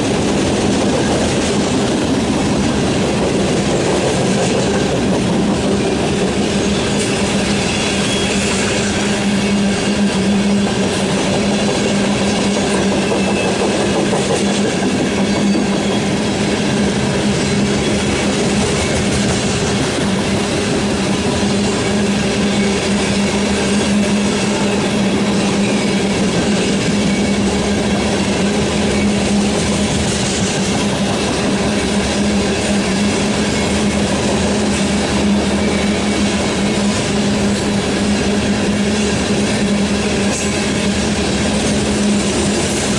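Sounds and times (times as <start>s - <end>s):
freight train rolling past: 0.0s - 42.9s.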